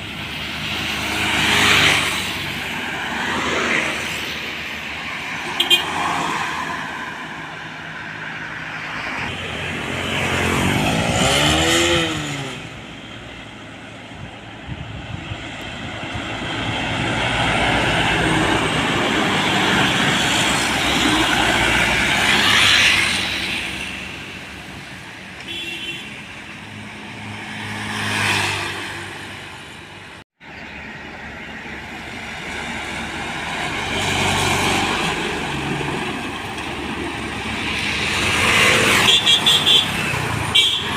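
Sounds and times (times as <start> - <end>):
diesel trucks and buses passing: 0.0 - 40.9.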